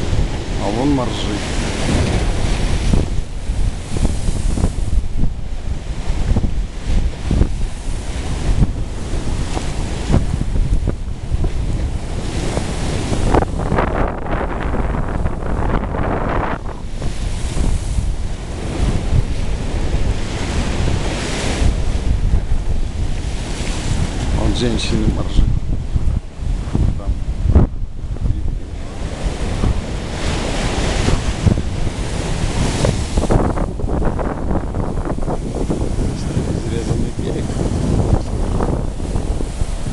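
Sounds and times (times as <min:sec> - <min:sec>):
surf breaking on rocky shore: 0:00.0 - 0:39.9
wind buffeting microphone: 0:00.0 - 0:39.9.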